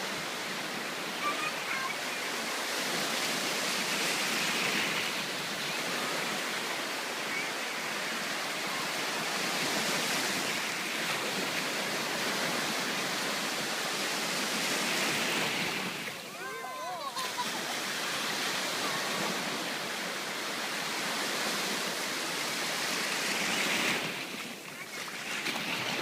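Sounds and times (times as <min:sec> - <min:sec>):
sea surf washing ashore: 0:00.0 - 0:26.0.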